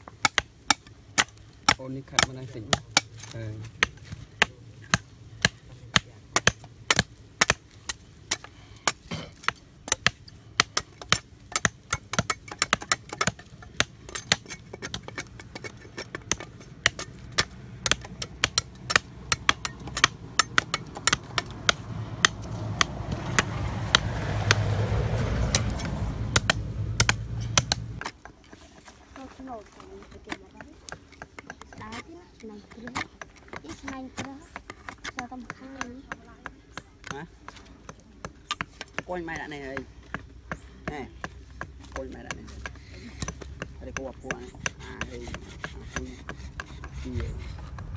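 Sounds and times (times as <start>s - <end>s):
cleaver chopping wood: 0.0s - 29.0s, 30.3s - 47.9s.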